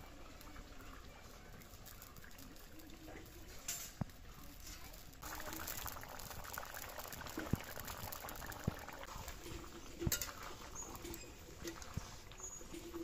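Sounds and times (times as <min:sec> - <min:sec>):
curry bubbling: 0:00.0 - 0:13.0.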